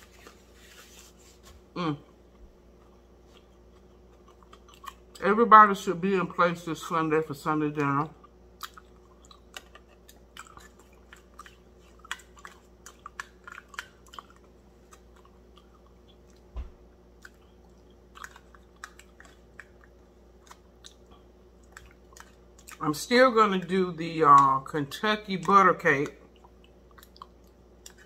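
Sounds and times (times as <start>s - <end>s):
chewing noises: 2.0s - 5.4s, 7.7s - 28.0s.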